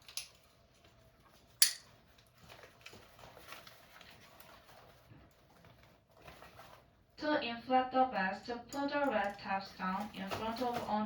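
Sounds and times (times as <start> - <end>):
rustling and handling noises: 0.0 - 7.2, 8.8 - 11.0.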